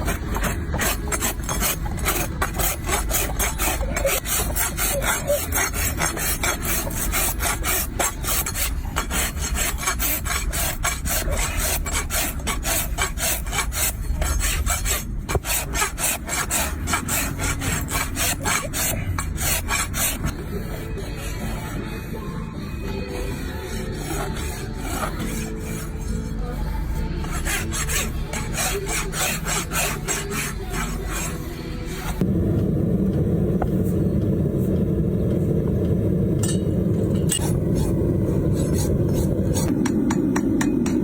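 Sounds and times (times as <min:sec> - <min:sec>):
rasp filing a hoof: 0:00.0 - 0:32.2, 0:37.2 - 0:40.7.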